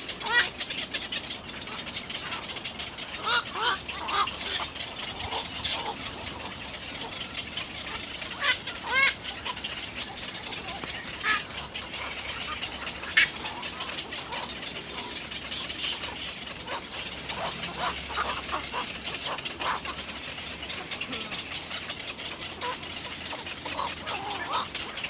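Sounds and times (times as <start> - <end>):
egrets calling: 0.0 - 25.0.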